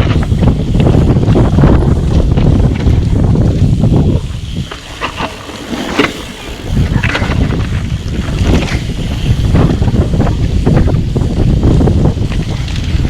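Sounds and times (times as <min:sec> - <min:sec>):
tyres crackling over loose ground: 0:00.0 - 0:13.0
wind buffeting microphone: 0:00.0 - 0:13.0.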